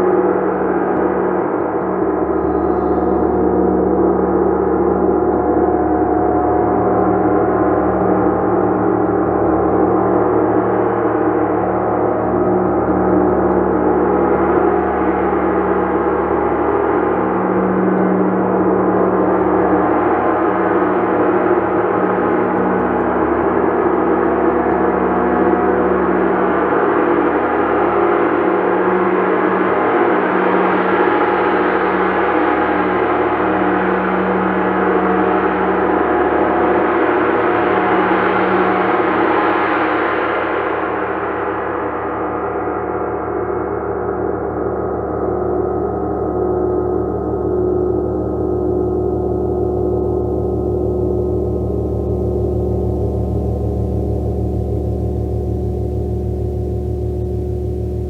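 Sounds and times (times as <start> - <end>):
gong played continuously: 0.0 - 58.0.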